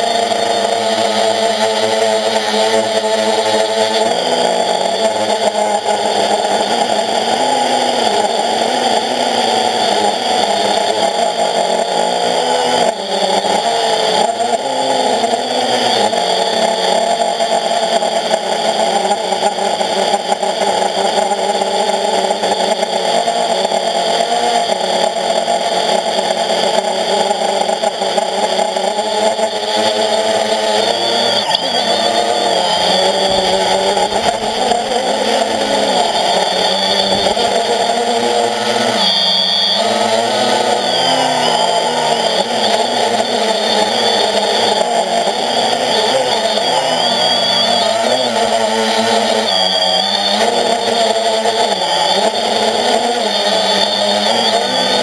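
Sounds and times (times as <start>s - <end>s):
quadcopter propellers whirring: 0.0s - 55.0s.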